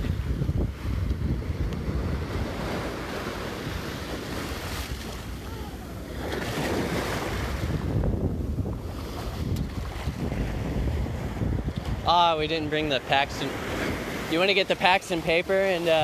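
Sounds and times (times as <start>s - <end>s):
surf breaking on sand: 0.0s - 16.0s
wind buffeting microphone: 0.0s - 16.0s.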